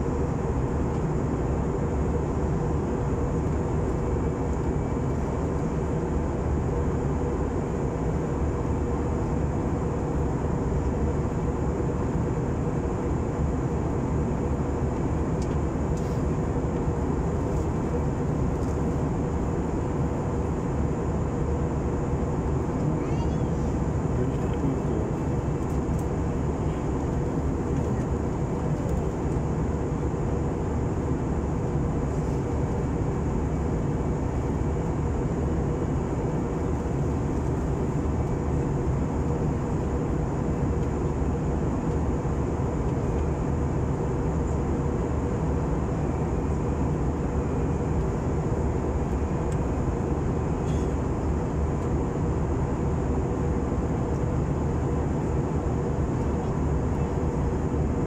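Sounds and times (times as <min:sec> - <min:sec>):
airliner cabin drone: 0:00.0 - 0:58.0
faint steady hum: 0:00.0 - 0:58.0.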